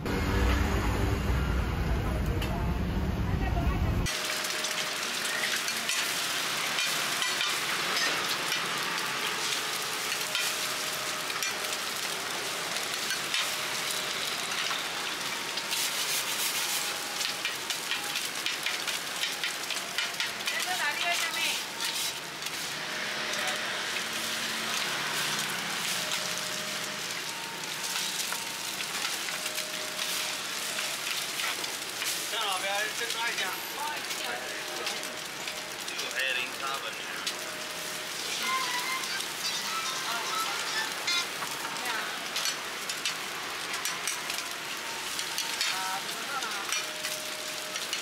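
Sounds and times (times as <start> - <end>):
eggs sizzling in oil: 4.0 - 48.0.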